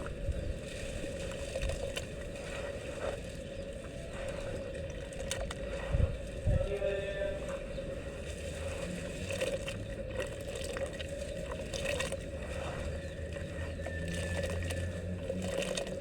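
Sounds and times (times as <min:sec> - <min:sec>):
dirt crumbling in water: 0:00.0 - 0:06.4, 0:08.1 - 0:16.0.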